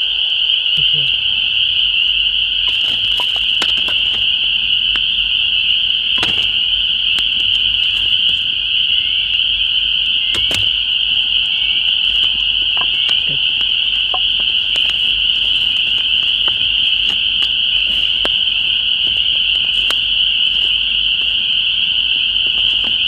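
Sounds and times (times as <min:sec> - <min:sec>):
frogs peeping: 0:00.0 - 0:23.0
campfire crackling and popping: 0:02.5 - 0:23.0.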